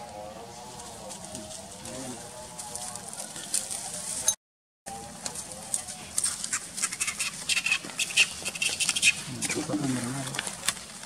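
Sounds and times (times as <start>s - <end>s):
dry leaves crackling and rustling: 0.0s - 4.3s, 4.9s - 11.0s.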